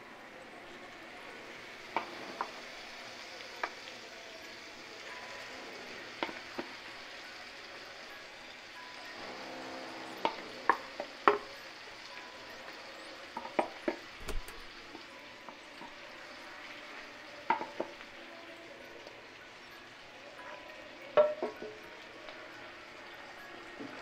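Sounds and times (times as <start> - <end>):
oil sizzling in frying pan: 0.0 - 24.0.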